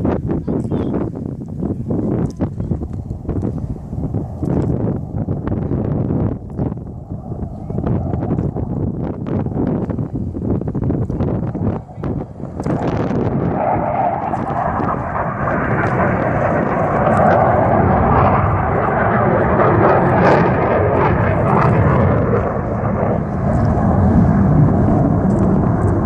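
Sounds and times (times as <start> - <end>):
jet roar overhead: 0.0 - 26.0.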